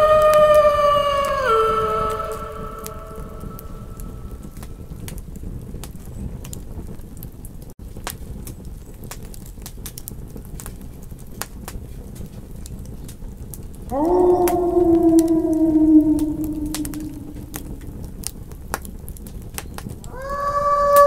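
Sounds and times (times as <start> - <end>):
campfire crackling: 1.2 - 21.0.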